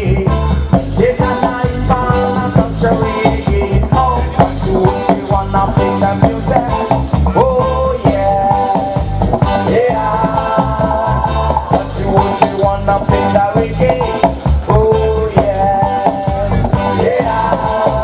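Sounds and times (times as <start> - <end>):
reggae music over sound system: 0.0 - 18.0.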